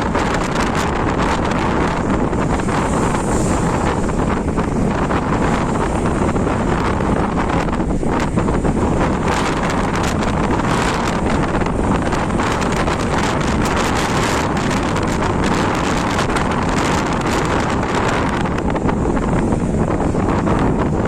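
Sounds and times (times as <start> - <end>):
airliner engines and airflow rushing: 0.0 - 21.0.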